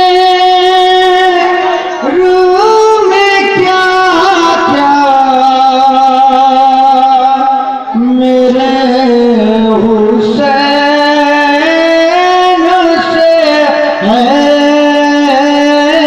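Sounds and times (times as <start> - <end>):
devotional chant singing: 0.0 - 16.0.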